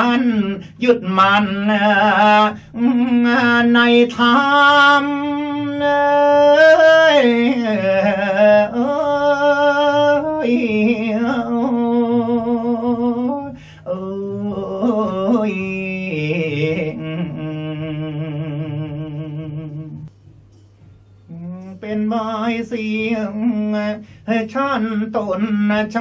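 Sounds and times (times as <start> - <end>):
man singing melismatic line: 0.0 - 20.1, 21.2 - 26.0.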